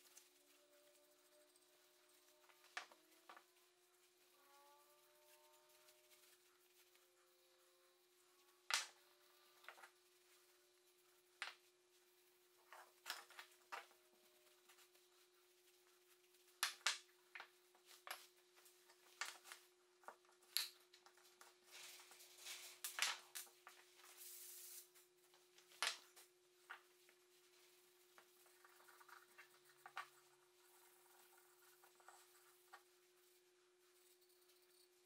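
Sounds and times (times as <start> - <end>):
thin steady hum: 0.0 - 35.0.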